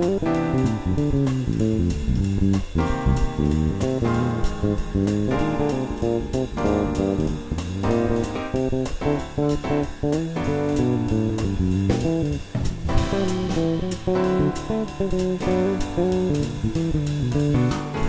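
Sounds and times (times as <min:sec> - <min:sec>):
drums keeping time: 0:00.0 - 0:18.0
electric bass guitar improvising: 0:00.0 - 0:18.0.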